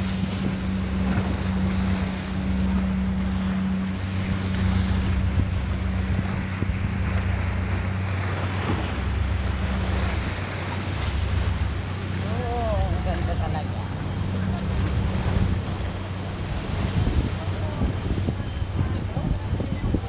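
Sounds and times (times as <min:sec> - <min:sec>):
low engine hum: 0:00.0 - 0:20.0
waves splashing against stone wall: 0:00.0 - 0:20.0
wind buffeting microphone: 0:00.0 - 0:20.0.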